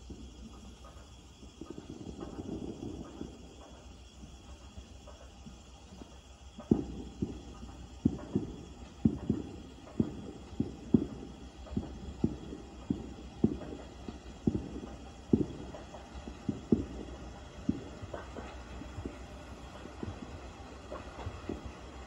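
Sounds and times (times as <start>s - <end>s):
distant fireworks booming: 0.0s - 22.0s.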